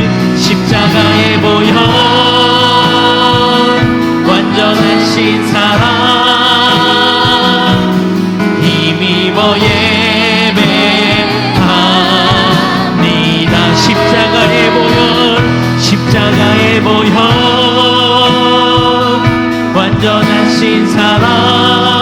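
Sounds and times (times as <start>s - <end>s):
voices singing: 0.0s - 22.0s
worship band playing chords: 0.0s - 22.0s.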